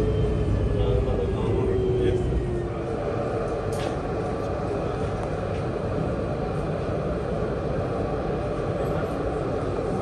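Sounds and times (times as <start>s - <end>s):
tram rumbling from inside: 0.0s - 10.0s.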